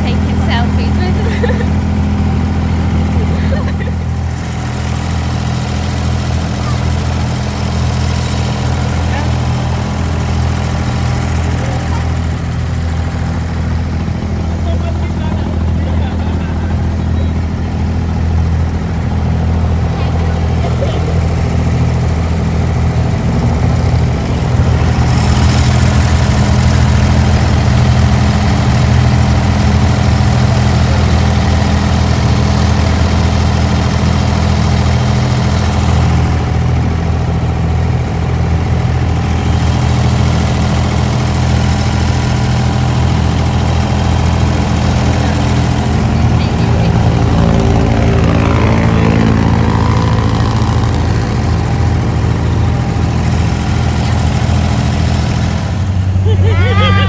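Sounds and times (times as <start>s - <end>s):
boat engine humming: 0.0s - 57.0s.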